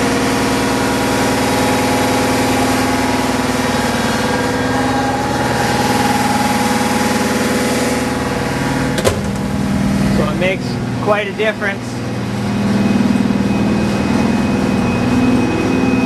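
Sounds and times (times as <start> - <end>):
gas compressor droning: 0.0 - 16.0.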